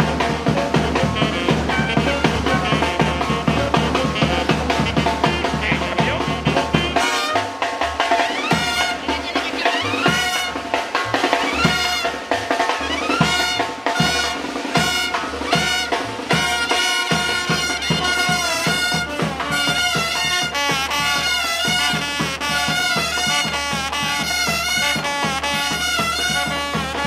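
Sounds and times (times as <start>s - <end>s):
brass band playing: 0.0s - 27.0s
drums and percussion beat: 0.0s - 27.0s.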